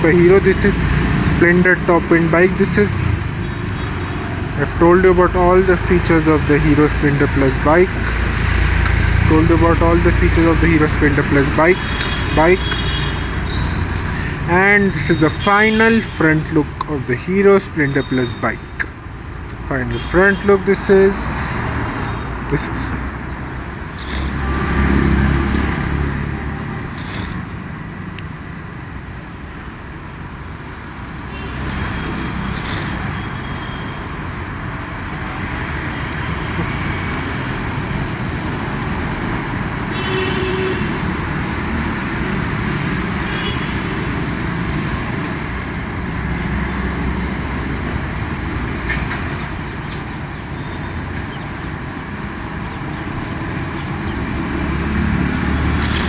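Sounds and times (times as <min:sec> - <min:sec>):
road traffic rumble: 0:00.0 - 0:56.0
vehicles passing: 0:00.0 - 0:56.0.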